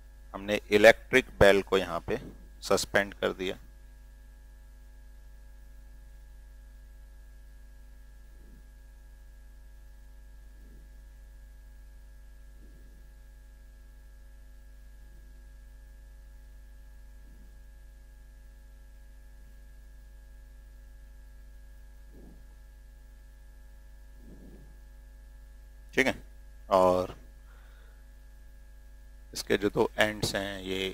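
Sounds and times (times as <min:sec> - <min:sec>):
electrical mains hum: 0:00.0 - 0:30.9
faint soft sounds: 0:01.1 - 0:30.9.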